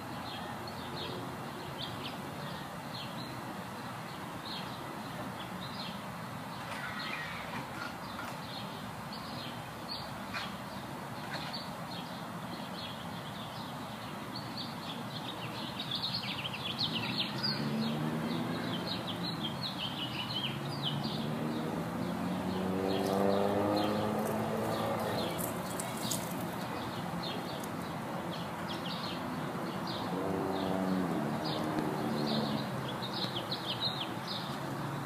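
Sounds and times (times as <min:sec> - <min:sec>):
small birds chirping: 0:00.2 - 0:35.0.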